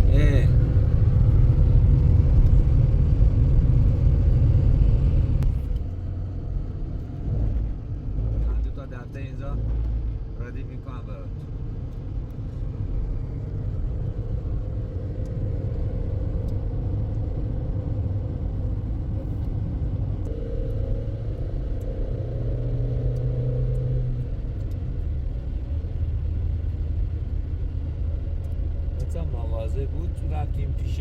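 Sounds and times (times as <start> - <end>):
motor vehicle rumbling: 0.0 - 31.0.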